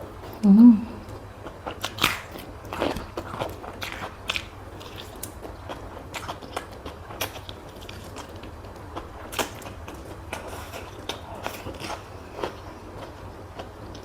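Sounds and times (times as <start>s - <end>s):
steady low hum: 0.0s - 14.0s
person chewing with mouth clicks: 0.2s - 14.0s.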